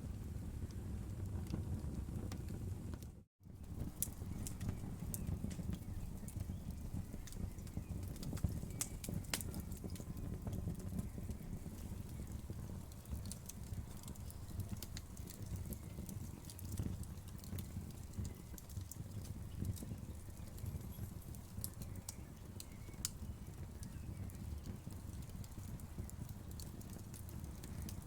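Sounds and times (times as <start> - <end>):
low rumble of flames: 0.0 - 28.0
wood crackling and popping: 0.0 - 28.0.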